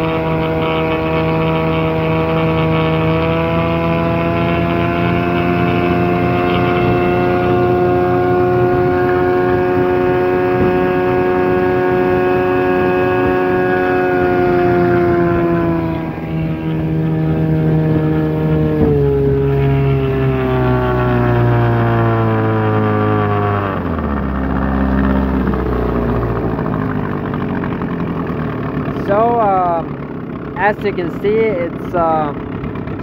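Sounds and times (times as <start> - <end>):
outboard motor droning: 0.0 - 33.0.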